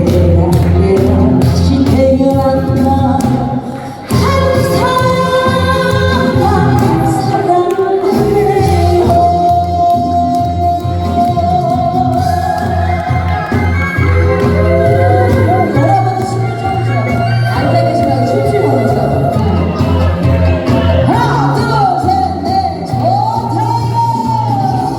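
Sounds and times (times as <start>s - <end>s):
amplified band accompaniment: 0.0s - 24.9s
woman singing: 0.0s - 24.9s.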